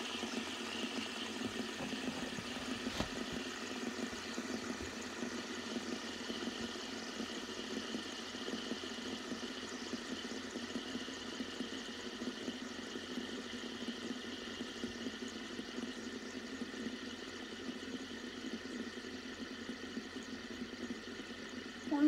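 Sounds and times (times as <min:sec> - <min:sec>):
fidget spinners whirring: 0:00.0 - 0:22.0.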